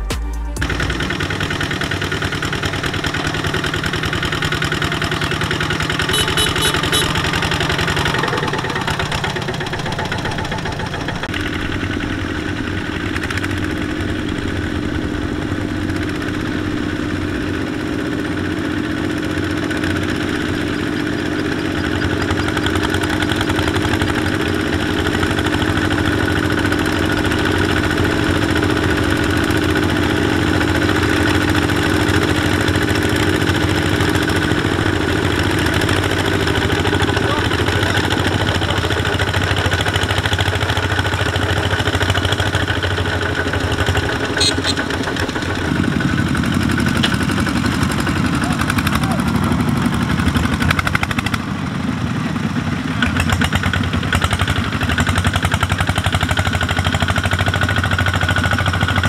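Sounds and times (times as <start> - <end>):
diesel engines chugging: 0.0 - 59.0.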